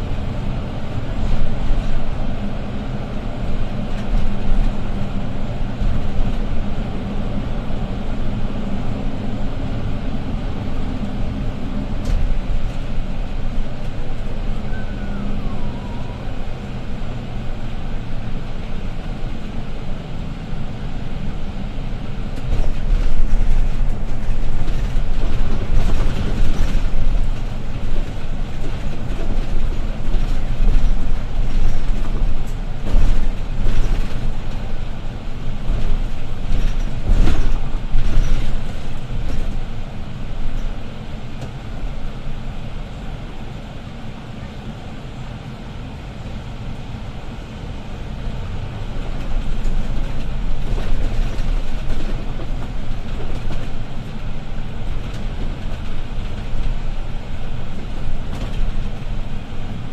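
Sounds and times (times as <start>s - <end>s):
bus diesel engine drone: 0.0s - 59.9s
road rumble: 0.0s - 59.9s.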